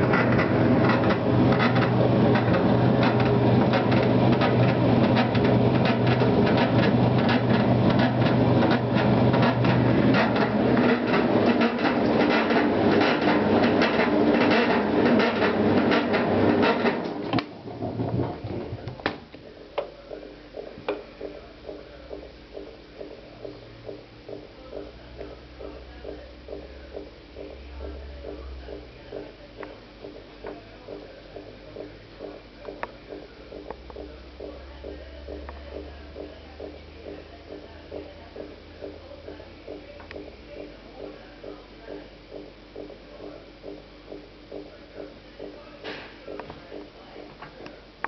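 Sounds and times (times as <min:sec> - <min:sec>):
washing machine running: 0:00.0 - 0:48.0.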